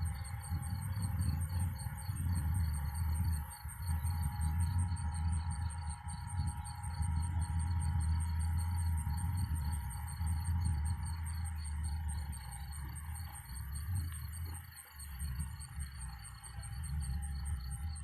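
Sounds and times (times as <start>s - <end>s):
constant low rumble: 0.0s - 18.0s
cricket chirping: 0.0s - 18.0s.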